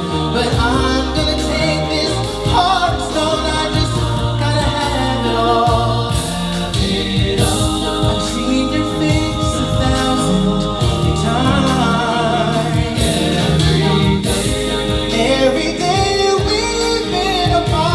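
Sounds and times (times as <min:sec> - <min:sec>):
group singing in harmony: 0:00.0 - 0:17.9
sustained low notes: 0:00.0 - 0:17.9.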